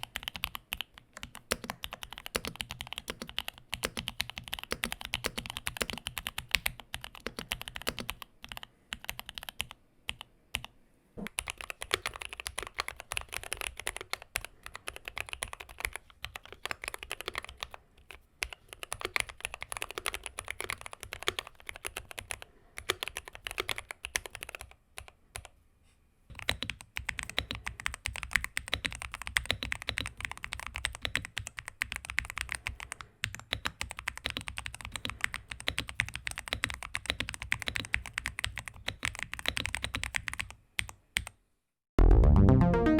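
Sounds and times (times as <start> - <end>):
mechanical keyboard typing: 0.0 - 25.5, 26.3 - 41.4.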